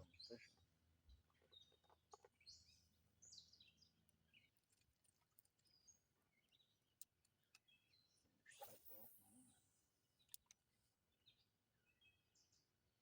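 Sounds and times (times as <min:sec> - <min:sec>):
faint bird chirps: 0:00.0 - 0:12.8.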